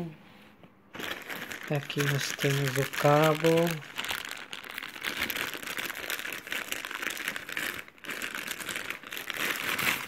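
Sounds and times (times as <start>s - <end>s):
plastic bag crinkling: 0.9s - 10.0s.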